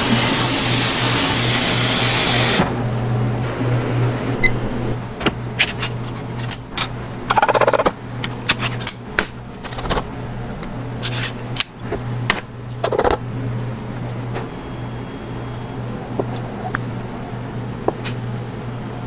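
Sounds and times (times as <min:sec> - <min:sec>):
steady low hum: 0:02.6 - 0:19.0.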